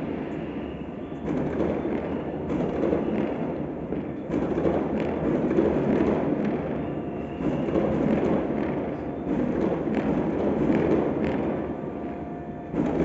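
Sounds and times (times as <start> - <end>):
sharp firecracker pops: 0.0 - 12.2
distant fireworks rumble: 0.0 - 13.0.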